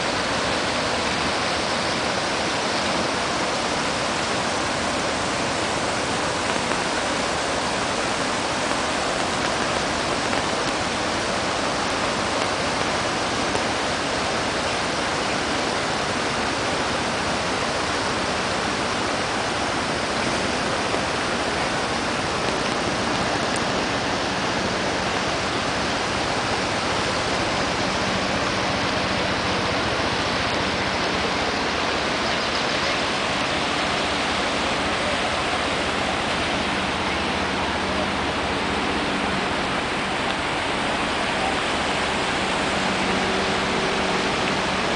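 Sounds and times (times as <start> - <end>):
floodwater rushing: 0.0 - 44.9.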